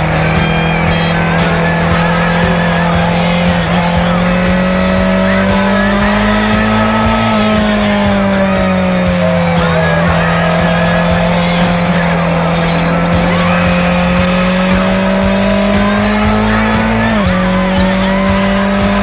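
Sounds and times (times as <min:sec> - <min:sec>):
motorcycle engine: 0:00.0 - 0:19.0.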